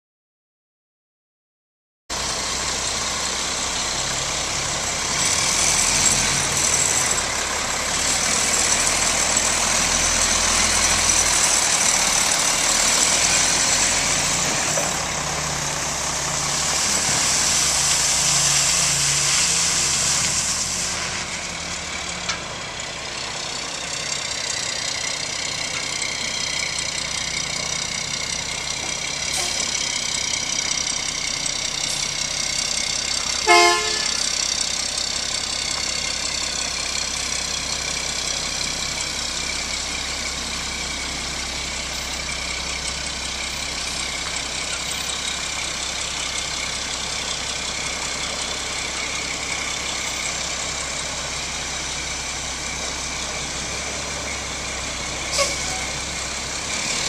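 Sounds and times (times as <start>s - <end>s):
diesel truck engine idling: 2.2s - 19.3s, 20.4s - 57.0s.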